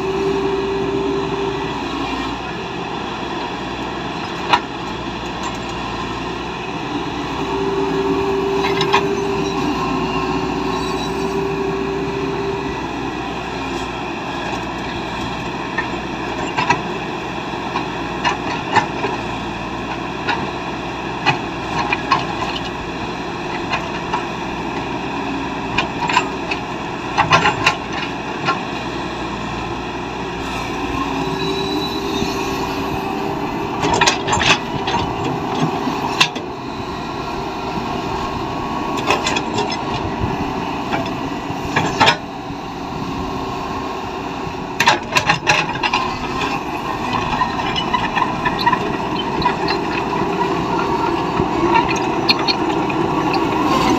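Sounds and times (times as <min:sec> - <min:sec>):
diesel machinery running: 0:00.0 - 0:53.9.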